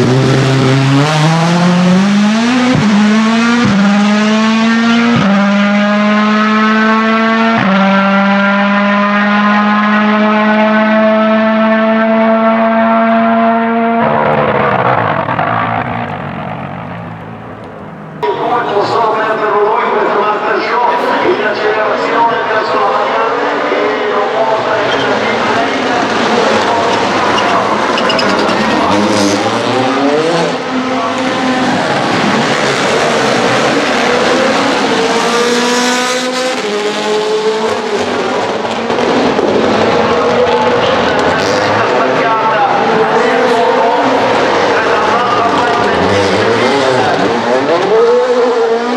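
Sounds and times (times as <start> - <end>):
rally car engine at high revs: 0.0 - 18.4, 20.1 - 48.9.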